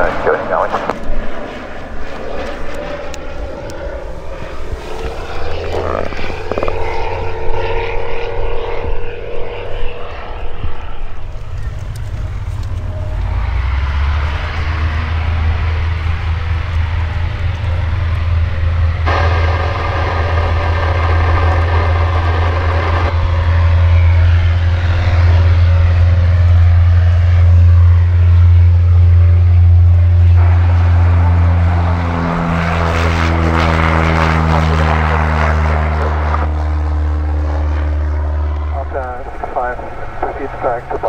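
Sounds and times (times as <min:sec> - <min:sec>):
propeller aircraft engine: 0:00.0 - 0:41.0.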